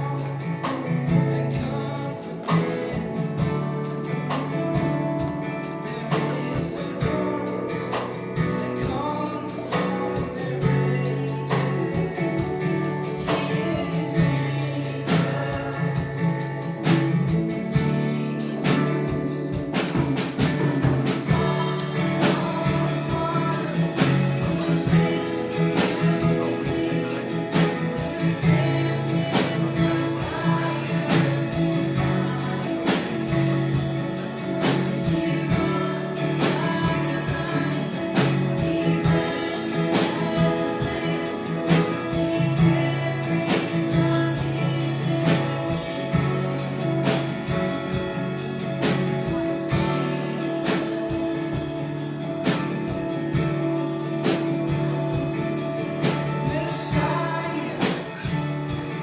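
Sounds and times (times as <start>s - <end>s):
person singing: 0.0s - 20.2s, 21.2s - 47.8s, 55.5s - 59.0s
strummed guitar: 0.0s - 59.0s.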